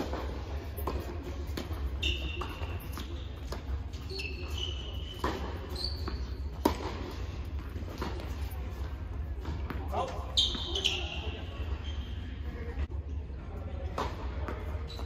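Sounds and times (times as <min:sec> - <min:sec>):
tennis balls struck by racquets: 0:00.0 - 0:10.9, 0:13.8 - 0:15.0
sneakers squeaking on court: 0:00.0 - 0:12.7, 0:14.0 - 0:15.0.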